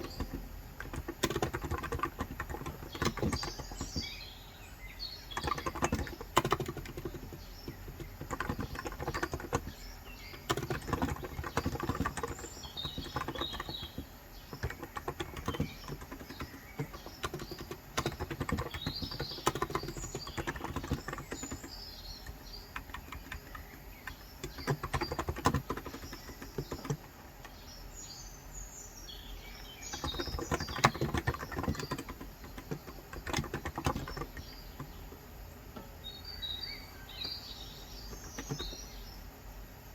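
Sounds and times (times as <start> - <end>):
keyboard typing: 0.0 - 4.4, 5.0 - 27.7, 29.6 - 35.3, 37.2 - 39.0
birds chirping: 0.0 - 39.9.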